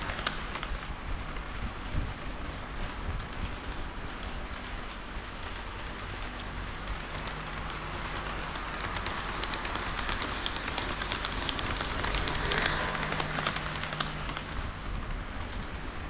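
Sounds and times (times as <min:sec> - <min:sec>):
clicks over rail joints: 0:00.0 - 0:16.0
model train wheels rolling: 0:00.0 - 0:16.0.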